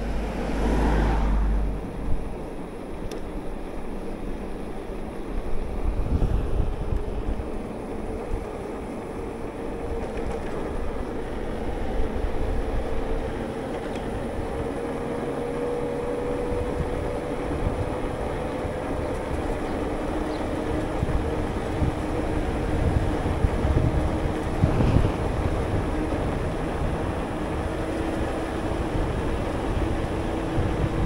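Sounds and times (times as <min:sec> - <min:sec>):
wind buffeting microphone: 0:01.8 - 0:31.0.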